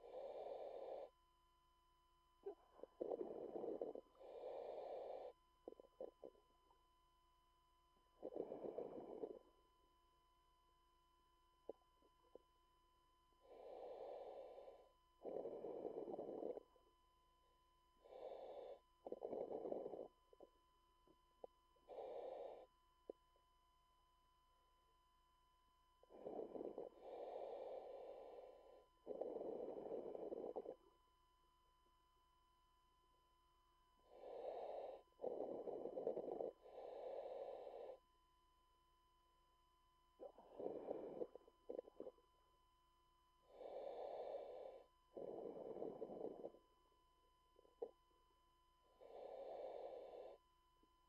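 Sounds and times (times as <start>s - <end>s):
faint steady tone: 0.0s - 51.0s.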